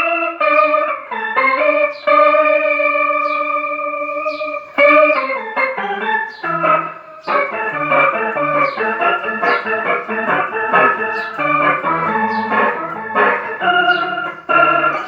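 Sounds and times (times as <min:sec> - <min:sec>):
electric guitar notes: 0:00.0 - 0:15.0.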